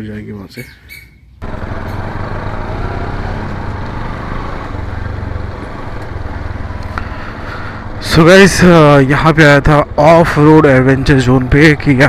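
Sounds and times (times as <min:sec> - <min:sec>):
motorcycle engine running: 0:01.4 - 0:12.0.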